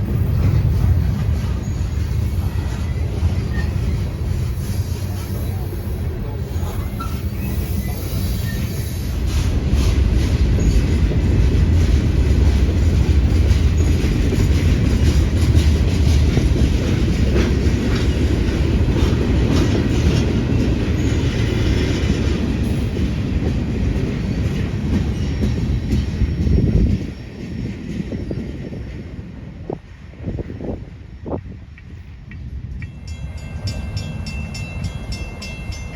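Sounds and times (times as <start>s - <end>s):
train rumbling past: 0.0s - 35.9s.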